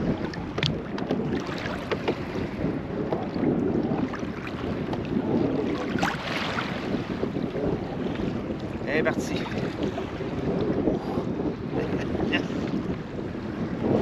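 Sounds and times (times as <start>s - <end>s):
water slapping against hull: 0.0s - 14.0s
wind buffeting microphone: 0.0s - 14.0s.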